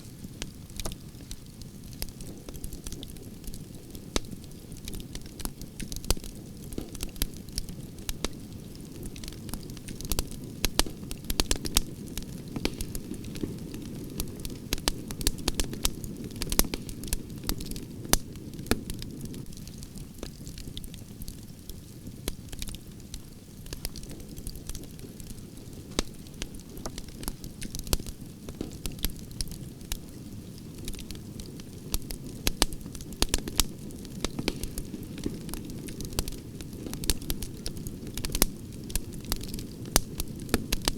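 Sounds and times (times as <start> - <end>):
campfire crackling: 0.0 - 40.9
low rush of flames: 0.1 - 40.9.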